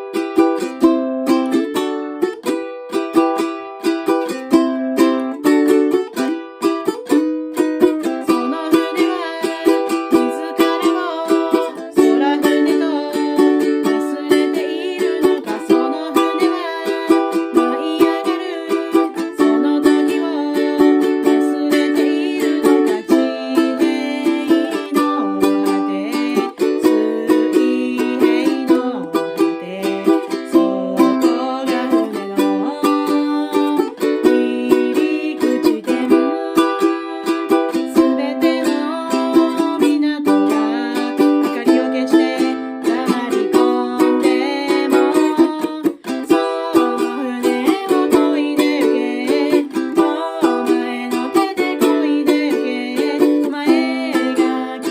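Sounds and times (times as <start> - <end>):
ukulele strumming: 0.0 - 54.9.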